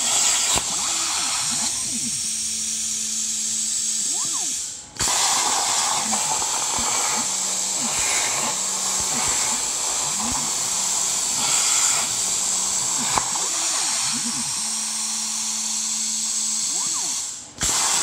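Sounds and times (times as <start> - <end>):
machine motion whines: 0.0 - 18.0
plasma torch hissing: 0.0 - 18.0.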